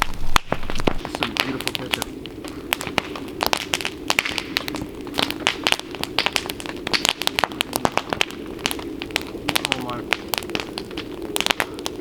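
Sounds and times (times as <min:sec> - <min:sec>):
campfire crackling and popping: 0:00.0 - 0:12.0
steady low rush: 0:00.0 - 0:12.0.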